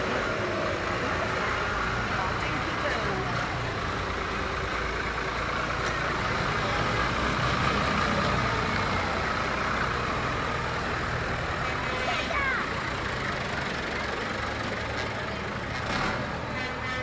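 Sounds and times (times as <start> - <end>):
tractor engines humming: 0.0 - 17.0.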